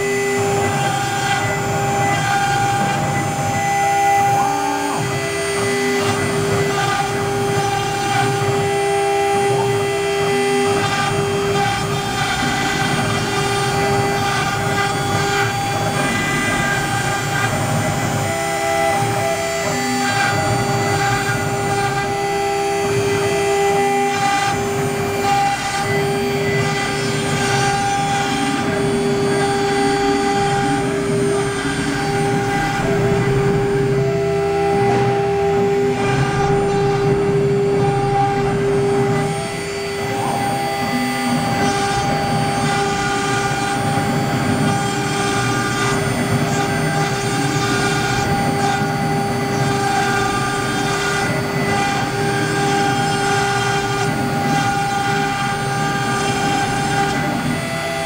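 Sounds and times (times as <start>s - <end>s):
machine drives humming: 0.0s - 58.0s
router spindle whine: 0.0s - 58.0s.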